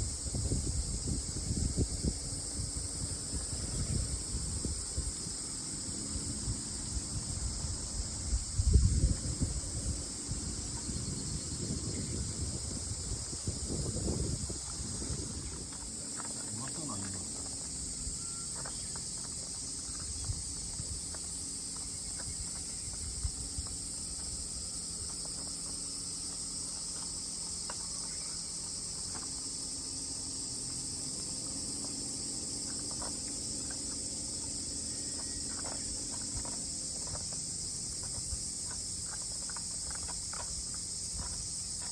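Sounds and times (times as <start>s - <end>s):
insects shrilling: 0.0s - 41.9s.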